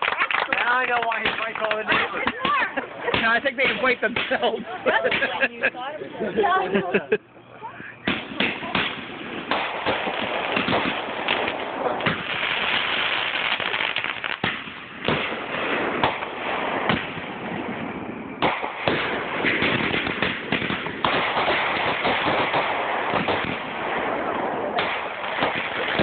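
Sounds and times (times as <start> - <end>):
fireworks shells bursting: 0.0 - 5.7, 7.9 - 24.2.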